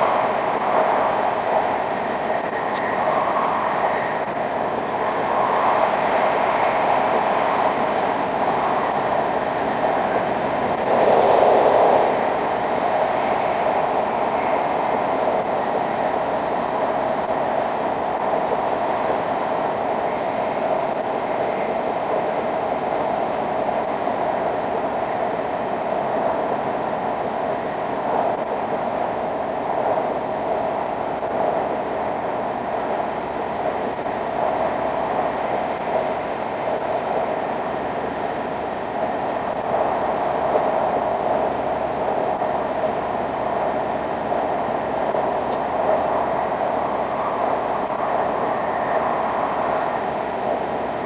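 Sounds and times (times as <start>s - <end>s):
train running noise in tunnel: 0.0s - 51.0s.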